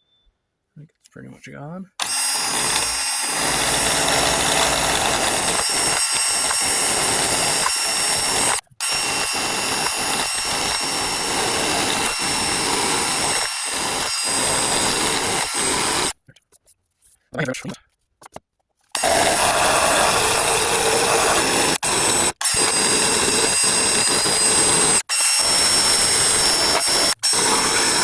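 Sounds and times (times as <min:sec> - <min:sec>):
electric drill whining and grinding: 0:02.0 - 0:16.2, 0:19.0 - 0:28.0.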